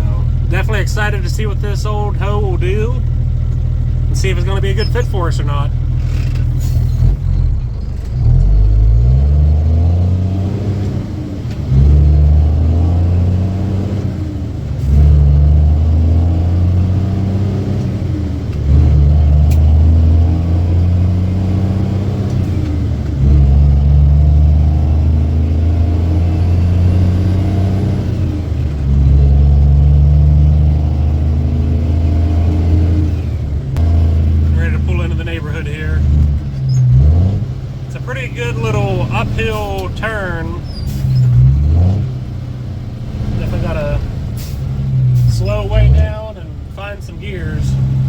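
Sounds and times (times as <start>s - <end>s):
diesel truck engine under load: 0.0s - 48.0s.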